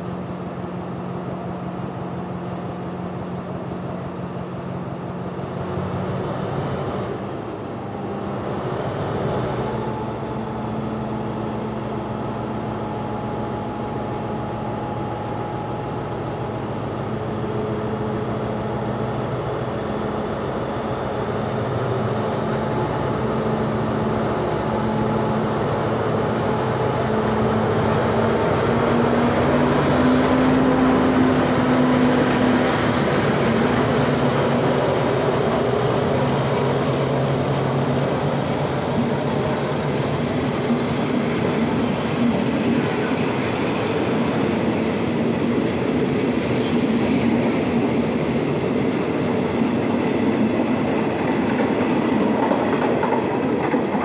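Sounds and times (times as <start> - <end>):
diesel locomotive engine drone: 0.0 - 54.0
train coaches rolling past: 0.0 - 54.0.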